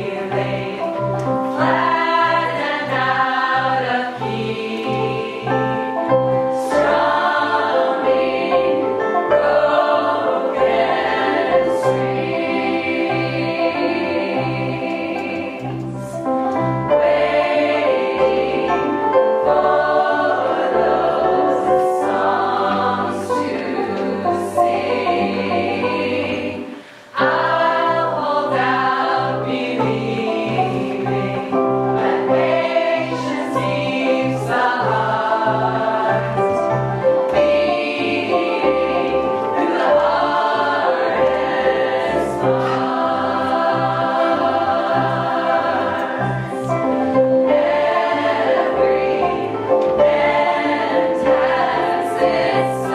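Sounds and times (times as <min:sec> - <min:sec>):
choir singing: 0:00.0 - 0:52.9.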